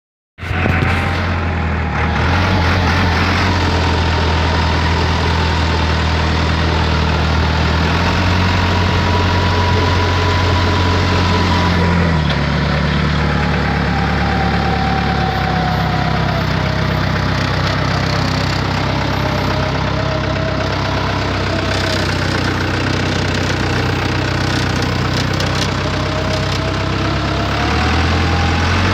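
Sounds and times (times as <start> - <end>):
forklift engine idling: 0.4 - 28.9
thin wavering whine: 0.4 - 28.9.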